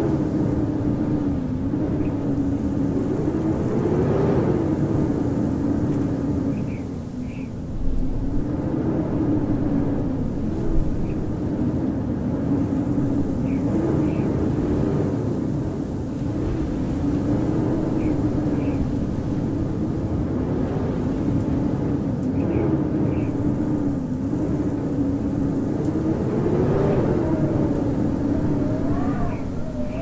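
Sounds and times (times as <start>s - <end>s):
howling wind: 0.0s - 30.0s.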